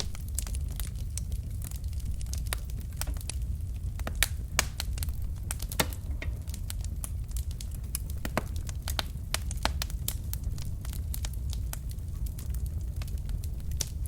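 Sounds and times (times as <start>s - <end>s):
low rumble of flame: 0.0s - 14.0s
sharp pops and snaps: 0.0s - 14.0s
wood fire crackling: 0.0s - 14.0s.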